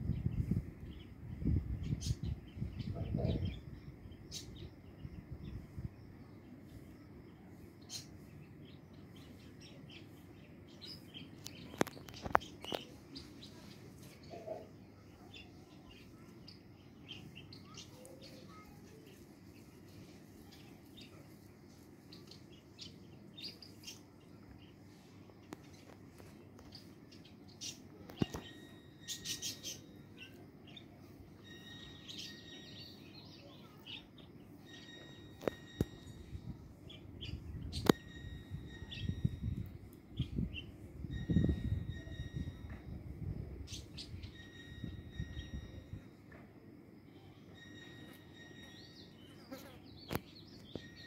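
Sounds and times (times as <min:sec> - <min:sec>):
birds chirping: 0:00.0 - 0:46.0, 0:47.2 - 0:51.0.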